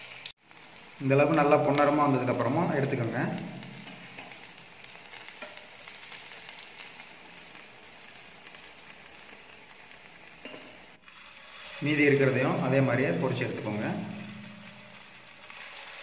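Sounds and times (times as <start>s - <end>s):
food sizzling in hot oil: 0.0s - 16.0s
small oil crackles: 0.0s - 16.0s.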